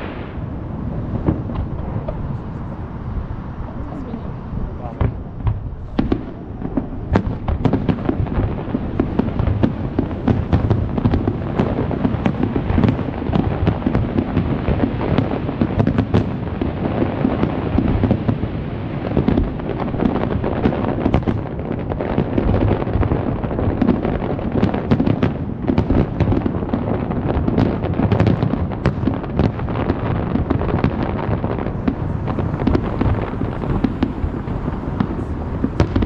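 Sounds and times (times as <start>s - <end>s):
continuous low rumble: 0.0s - 36.0s
fireworks bangs: 0.0s - 36.0s.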